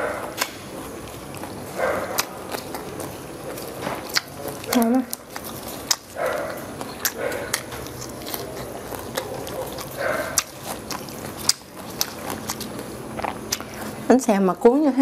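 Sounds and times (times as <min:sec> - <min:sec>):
close-miked chewing: 0:00.0 - 0:15.0.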